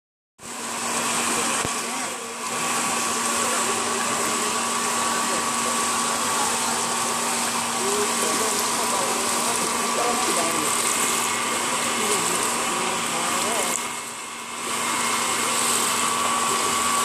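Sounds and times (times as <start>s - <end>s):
pump hum: 0.4s - 17.0s
rushing water: 0.5s - 17.0s.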